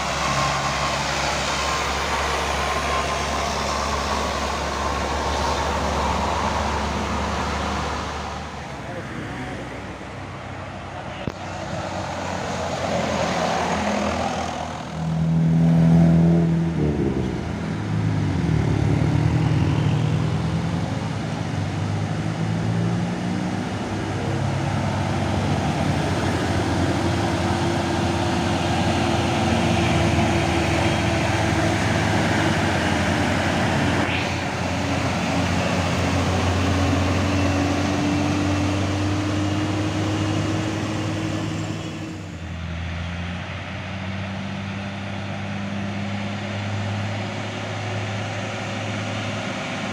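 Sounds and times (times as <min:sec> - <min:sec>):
diesel trucks climbing hill: 0:00.0 - 0:49.9
truck passing by: 0:00.0 - 0:49.9.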